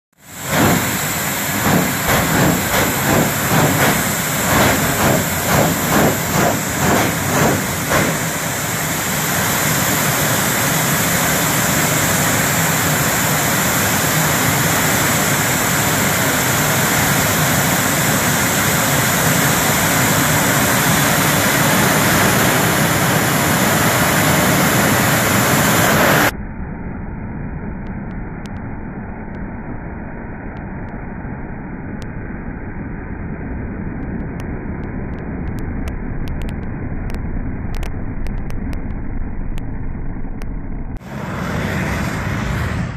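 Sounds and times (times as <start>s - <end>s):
jet engines roaring: 0.1s - 32.0s, 32.8s - 42.9s.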